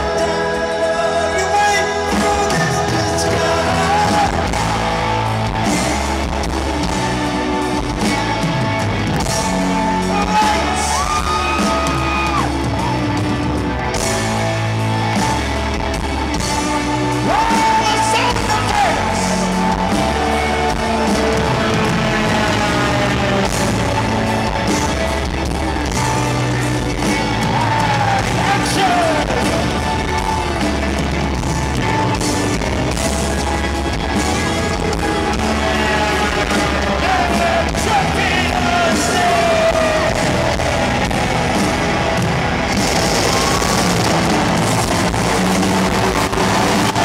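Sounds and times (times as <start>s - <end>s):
bending lead guitar notes: 0.0s - 47.0s
crowd shouting: 0.0s - 47.0s
live rock band playing: 0.0s - 47.0s.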